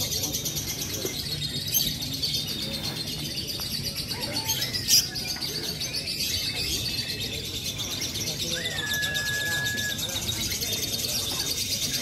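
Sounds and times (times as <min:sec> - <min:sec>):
lovebirds chattering trill: 0:00.0 - 0:12.0.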